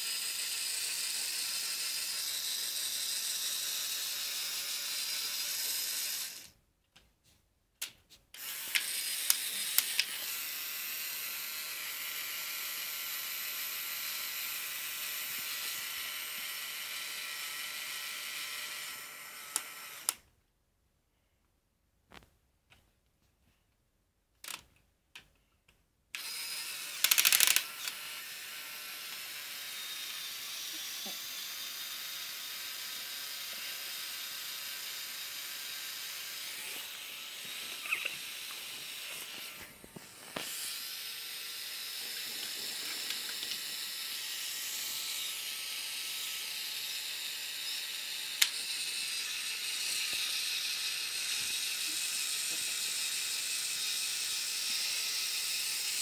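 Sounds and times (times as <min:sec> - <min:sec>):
toy electric motor whirring: 0:00.0 - 0:06.6, 0:08.3 - 0:20.2, 0:26.1 - 0:56.0.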